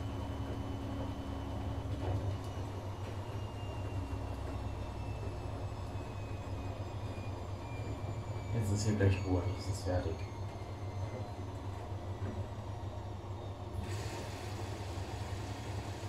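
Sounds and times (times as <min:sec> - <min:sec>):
washing machine spin winding down: 0:00.0 - 0:16.0.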